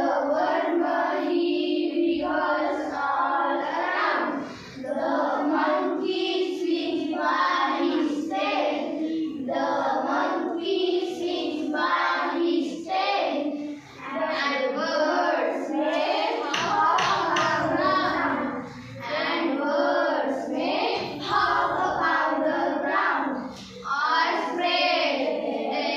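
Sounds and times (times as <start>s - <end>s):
girls singing in unison: 0.0s - 25.9s.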